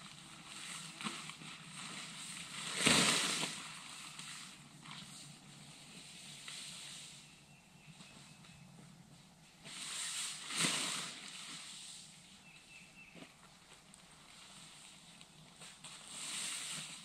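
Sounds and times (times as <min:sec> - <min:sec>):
tarp rustling and crumpling: 0:00.0 - 0:07.2, 0:09.6 - 0:12.3, 0:13.3 - 0:17.0.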